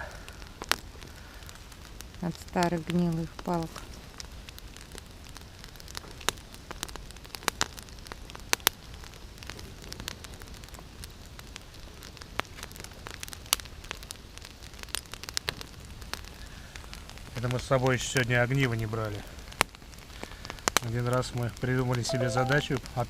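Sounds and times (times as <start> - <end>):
campfire crackling and popping: 0.0 - 23.0
fire low hiss: 0.0 - 23.0.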